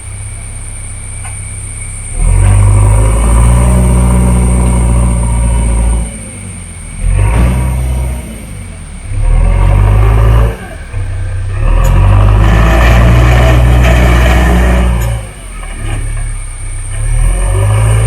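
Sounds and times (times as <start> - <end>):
diesel engine under load: 0.0 - 18.0.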